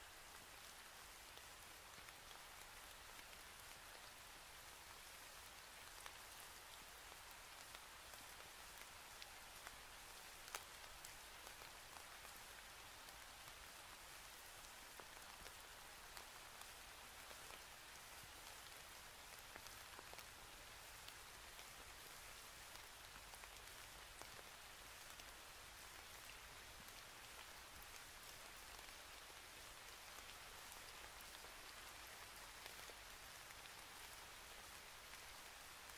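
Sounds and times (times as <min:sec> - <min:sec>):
faint steady hiss: 0:00.0 - 0:35.9.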